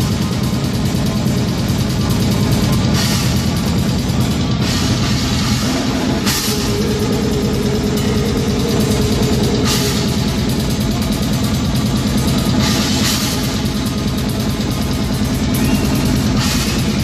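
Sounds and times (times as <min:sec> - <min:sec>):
distorted guitars: 0:00.0 - 0:17.0
rapid drumming: 0:00.0 - 0:17.0
cymbal crashes: 0:01.6 - 0:17.0.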